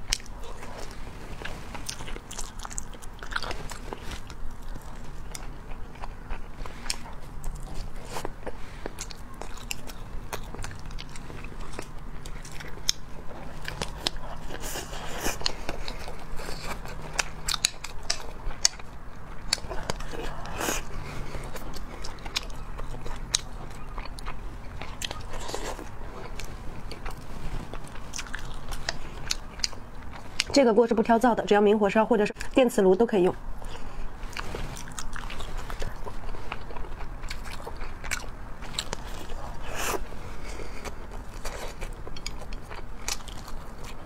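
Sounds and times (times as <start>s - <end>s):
chewing and crunching: 0.0s - 31.4s, 33.4s - 44.0s.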